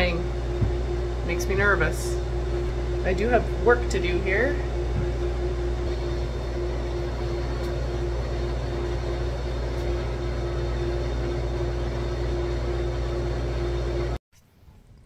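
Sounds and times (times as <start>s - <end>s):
electric water pump humming: 0.0s - 14.2s.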